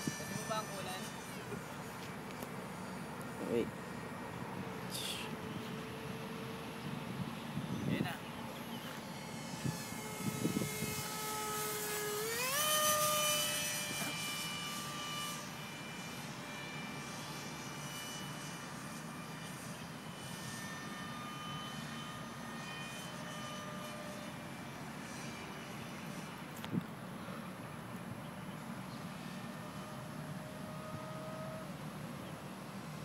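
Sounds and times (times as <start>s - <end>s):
electric fan motor whining: 0.0s - 33.0s.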